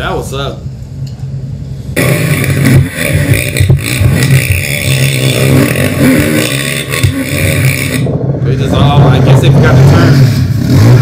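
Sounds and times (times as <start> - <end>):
atv engines revving: 2.0 - 11.0.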